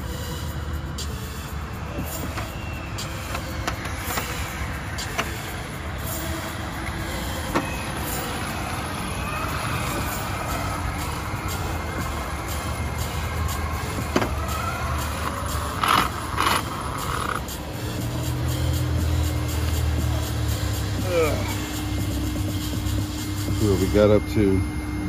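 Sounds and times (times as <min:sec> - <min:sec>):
highway traffic rumble: 0:00.0 - 0:25.0.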